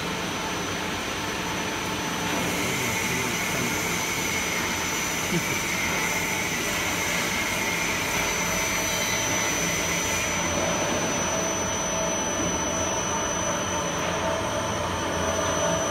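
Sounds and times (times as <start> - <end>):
mixer machine hum with high whine: 0.0 - 15.9.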